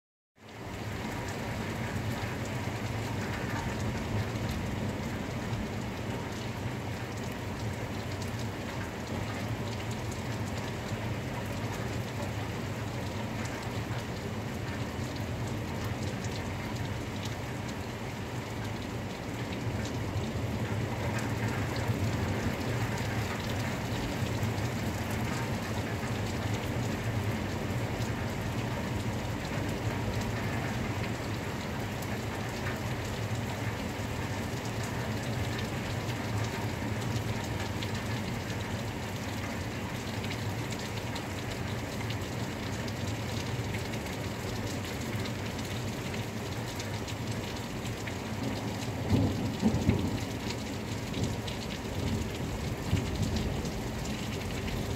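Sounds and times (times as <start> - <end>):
rain drops ticking on hard surfaces: 0.4 - 54.9.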